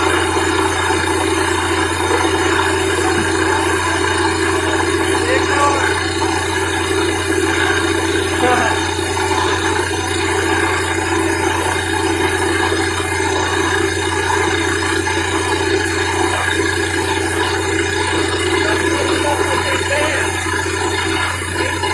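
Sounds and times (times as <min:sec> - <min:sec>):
drilling rig drone: 0:00.0 - 0:21.9.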